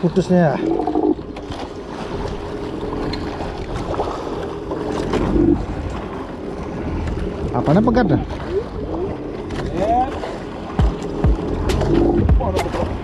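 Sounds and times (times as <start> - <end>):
boat engine hum: 0.0 - 13.0
waves against hull: 0.0 - 13.0.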